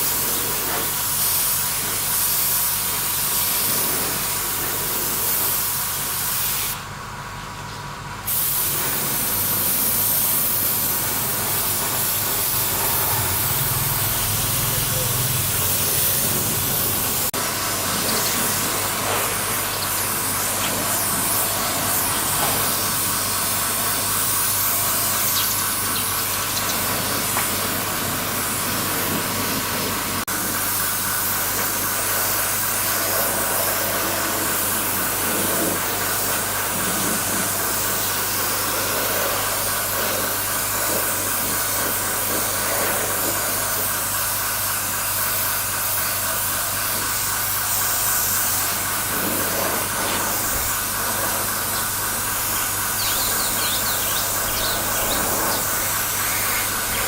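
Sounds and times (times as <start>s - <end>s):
steady hissing noise: 0.0s - 6.9s, 8.2s - 57.0s.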